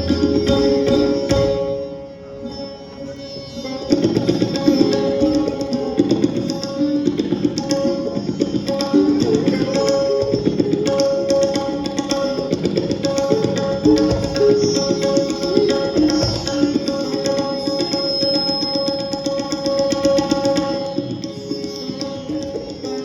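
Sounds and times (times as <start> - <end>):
tabla rapid strokes: 0.0 - 2.0, 3.6 - 23.0
sitar and sarod melody: 0.0 - 23.0.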